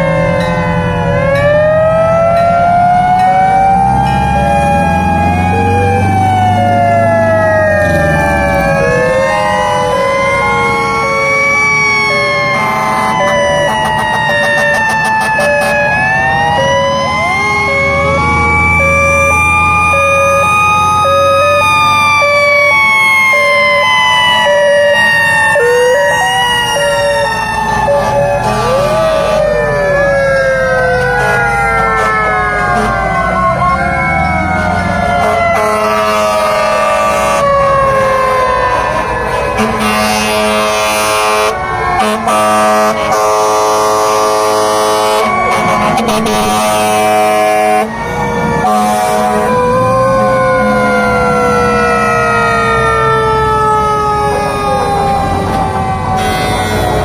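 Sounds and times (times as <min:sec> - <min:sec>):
truck engine rumble: 0:00.0 - 0:57.0
two-tone hi-lo siren: 0:00.0 - 0:57.0
wailing fire truck sirens: 0:00.0 - 0:57.0.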